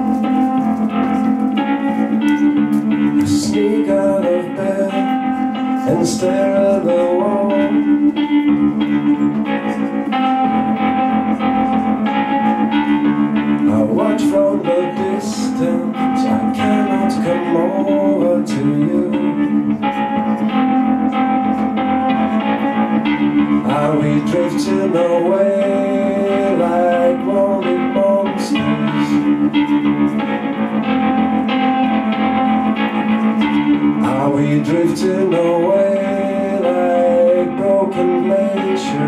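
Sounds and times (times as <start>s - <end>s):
plucked guitar music: 0.0s - 39.0s
steady held low tone: 0.0s - 39.0s.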